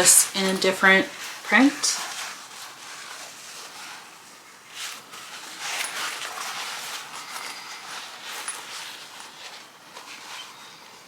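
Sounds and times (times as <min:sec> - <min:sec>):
fabric bag rustling: 0:00.0 - 0:11.0.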